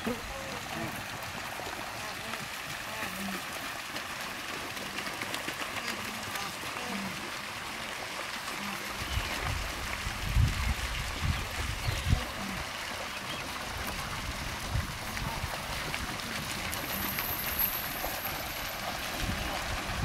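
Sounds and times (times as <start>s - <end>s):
river water splashing: 0.0s - 20.0s.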